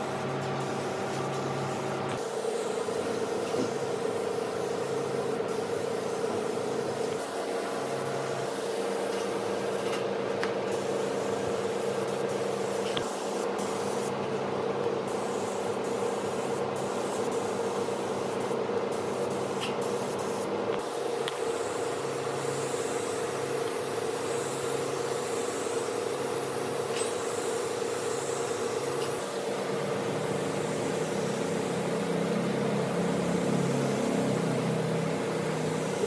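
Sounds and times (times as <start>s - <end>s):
machine hissing and humming: 0.0s - 14.2s, 14.8s - 36.0s.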